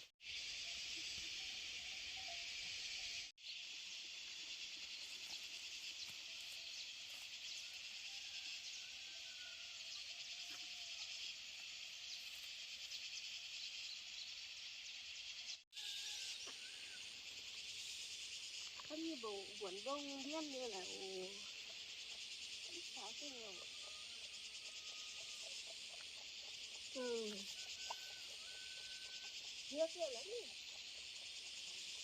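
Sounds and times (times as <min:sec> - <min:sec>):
high insect chorus: 0:00.0 - 0:32.0.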